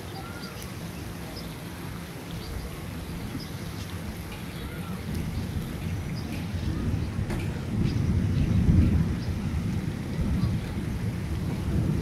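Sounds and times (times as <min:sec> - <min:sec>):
heavy rain with deep rumble: 0:00.0 - 0:12.0.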